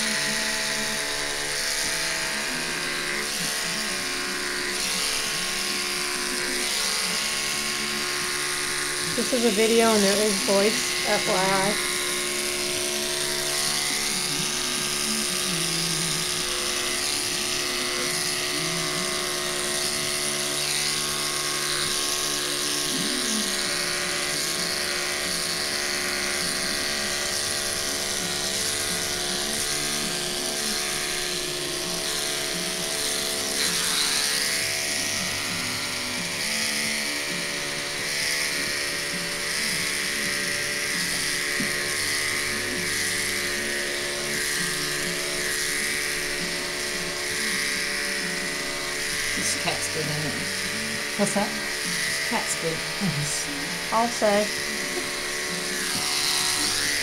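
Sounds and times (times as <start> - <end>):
electric pet clippers humming: 0.0 - 57.0.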